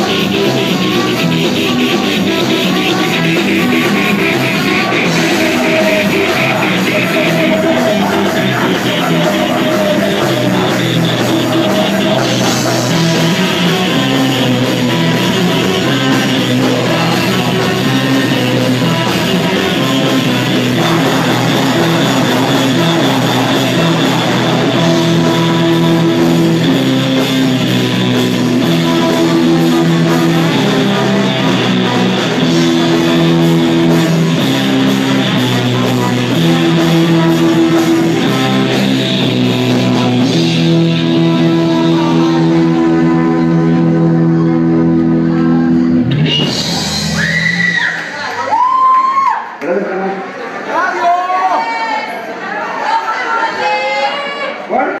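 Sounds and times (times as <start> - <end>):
trombone: 0.0 - 47.0
person singing: 0.0 - 47.7
live ska-punk band: 0.0 - 49.5.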